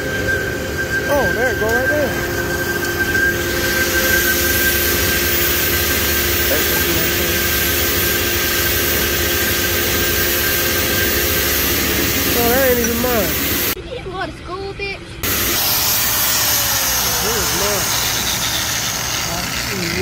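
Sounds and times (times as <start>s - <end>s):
machinery whine: 0.0s - 13.8s, 15.2s - 20.0s
loud hiss: 1.1s - 13.8s, 15.2s - 19.8s.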